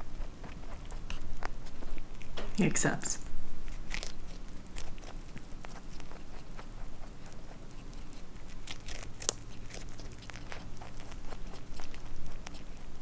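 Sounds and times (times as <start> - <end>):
rabbit chewing strawberry: 0.0 - 13.0.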